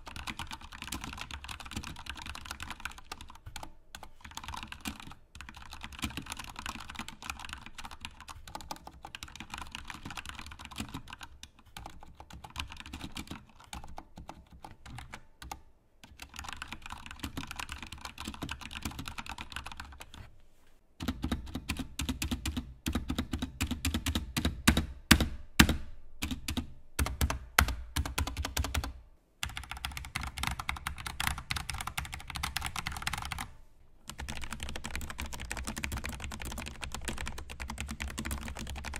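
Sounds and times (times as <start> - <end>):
mechanical keyboard typing: 0.0 - 20.2, 21.0 - 33.5, 34.1 - 38.9.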